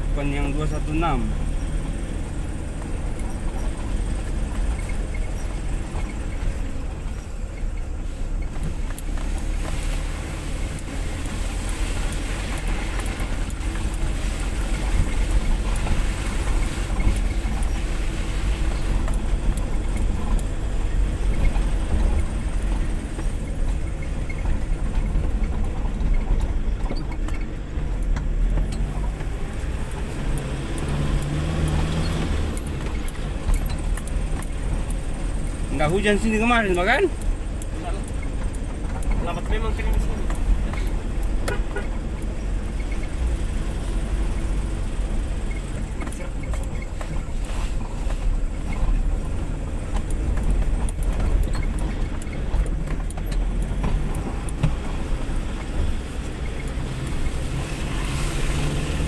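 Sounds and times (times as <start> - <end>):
rattles and knocks in cab: 0.0 - 59.0
vehicle engine and tyres rumbling: 0.0 - 59.0.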